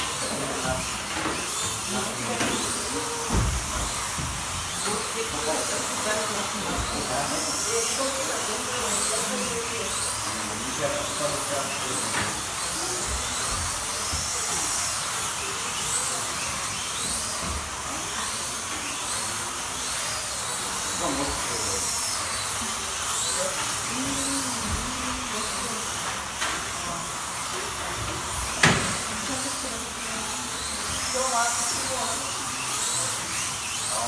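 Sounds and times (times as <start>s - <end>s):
slot car motors whining: 0.0s - 34.0s.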